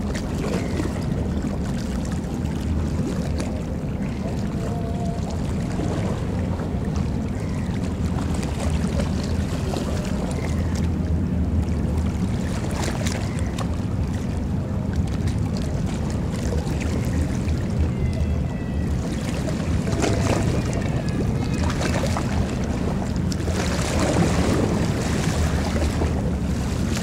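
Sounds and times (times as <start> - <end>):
water washing around hull: 0.0 - 27.0.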